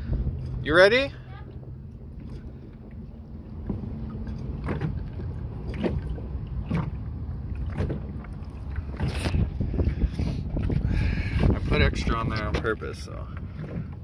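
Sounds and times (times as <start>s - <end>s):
wind rumbling on microphone: 0.0s - 0.8s, 1.6s - 14.0s
waves slapping against boat hull: 0.0s - 14.0s.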